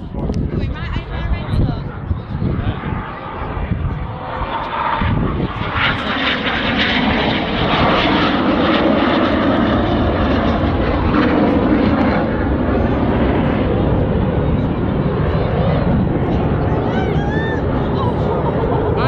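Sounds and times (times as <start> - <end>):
jets flying past roaring: 0.0 - 19.0.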